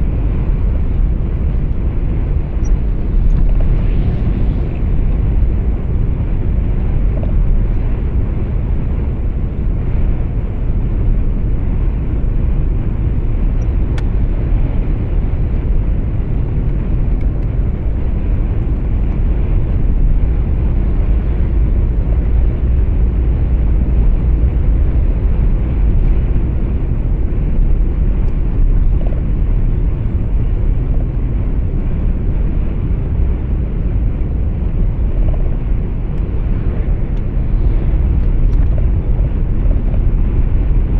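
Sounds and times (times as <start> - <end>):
truck engine and tyre noise: 0.0 - 40.9.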